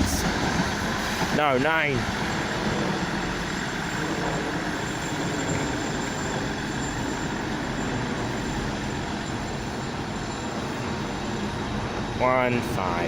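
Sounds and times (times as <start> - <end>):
diesel train rumble: 0.0 - 13.0.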